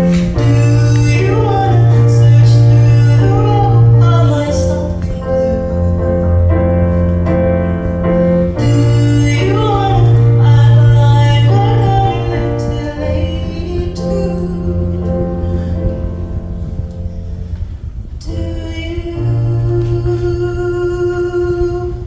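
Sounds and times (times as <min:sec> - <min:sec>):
sustained accompaniment chords: 0:00.0 - 0:22.0.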